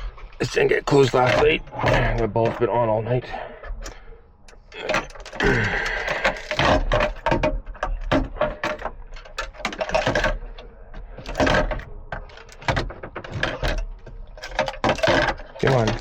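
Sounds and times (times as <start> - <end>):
hard objects clicking and knocking: 0.5 - 3.0, 3.6 - 16.0.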